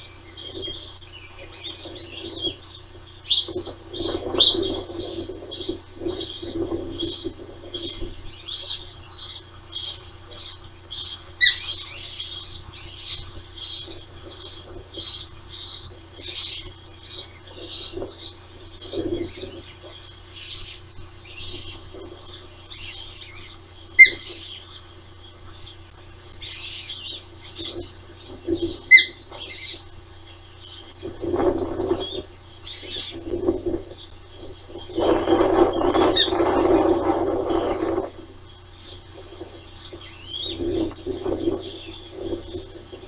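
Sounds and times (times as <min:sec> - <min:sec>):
osprey high chirps: 0:00.0 - 0:43.0.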